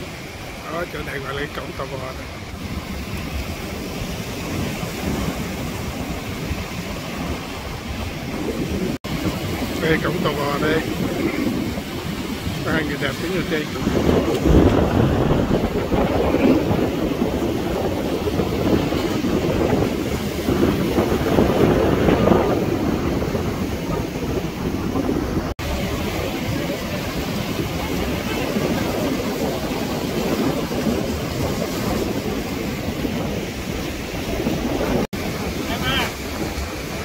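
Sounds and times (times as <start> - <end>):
surf washing against rocks: 0.0 - 37.0
wind buffeting microphone: 0.0 - 37.0.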